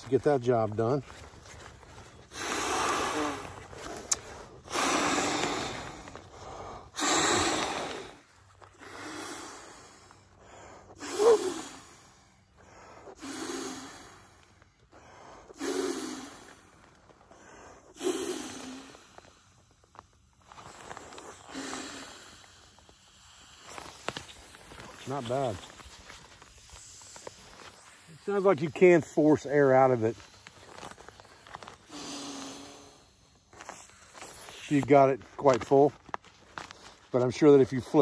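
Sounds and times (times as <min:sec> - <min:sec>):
man blowing hard breaths: 0:01.7 - 0:34.8.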